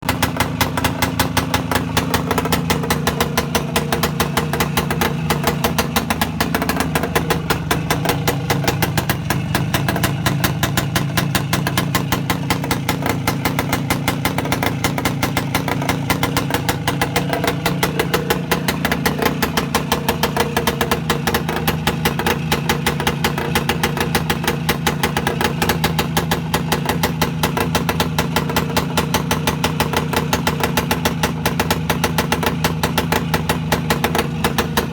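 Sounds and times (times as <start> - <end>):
two-stroke motorcycle engine running: 0.0 - 34.9.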